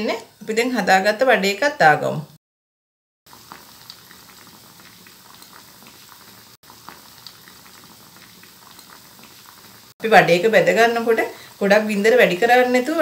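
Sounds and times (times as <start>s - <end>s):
deep-frying sizzle with pops: 0.0s - 1.7s, 3.3s - 13.0s.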